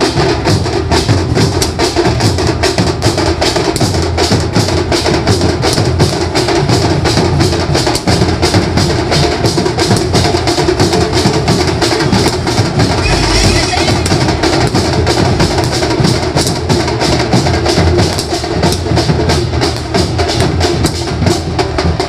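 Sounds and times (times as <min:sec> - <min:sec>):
steady drumming: 0:00.0 - 0:22.0.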